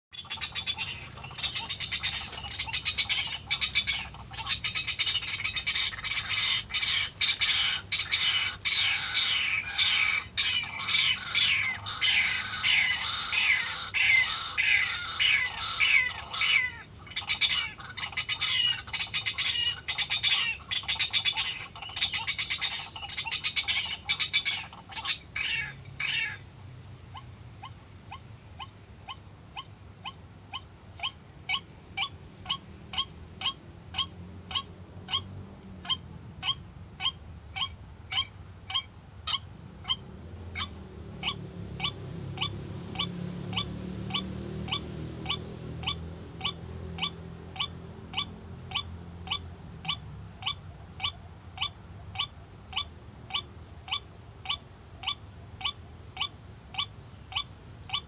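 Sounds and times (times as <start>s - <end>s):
waterhen calling: 0.1s - 26.4s, 27.1s - 58.0s.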